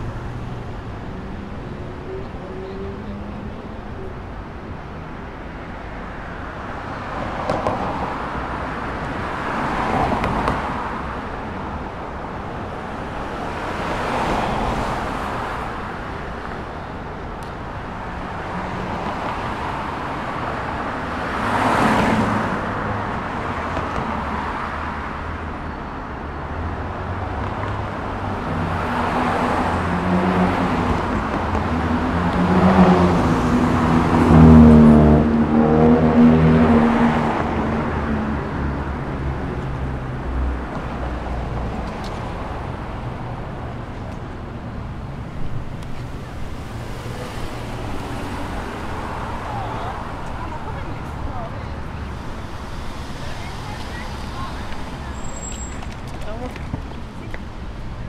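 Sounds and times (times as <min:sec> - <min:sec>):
cars passing: 0:00.0 - 0:58.0
roadway hum: 0:00.0 - 0:58.0.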